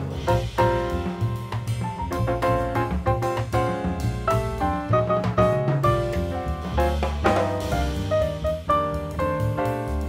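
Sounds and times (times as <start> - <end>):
jazzy piano music: 0.0 - 10.0
steady drum beat: 0.0 - 10.0.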